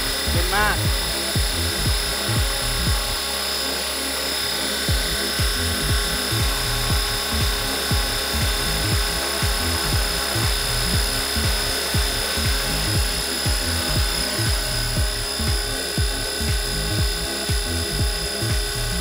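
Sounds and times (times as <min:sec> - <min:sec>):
background music with a beat: 0:00.0 - 0:19.0
model helicopter rotor whine: 0:00.0 - 0:19.0.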